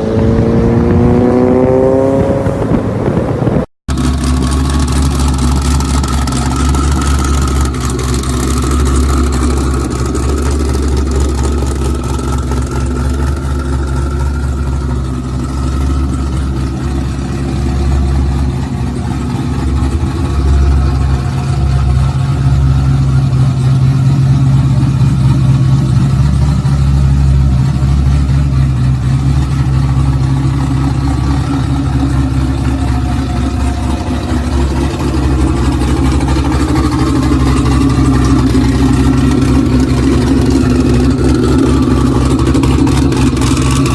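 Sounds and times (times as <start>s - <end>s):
sports car engine idling: 2.6s - 43.9s.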